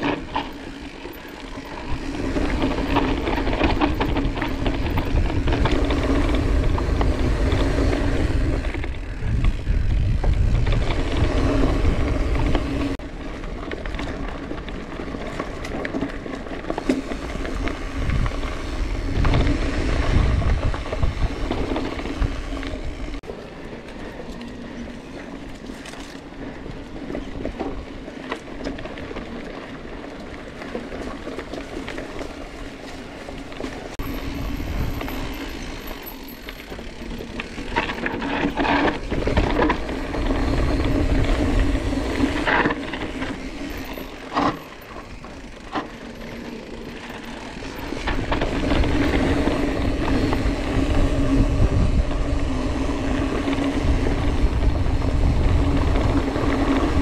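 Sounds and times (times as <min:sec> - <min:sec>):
wind noise: 0:00.0 - 0:29.9, 0:30.8 - 0:46.0, 0:46.6 - 0:57.0
bike tyres rumbling on trail: 0:00.0 - 0:57.0.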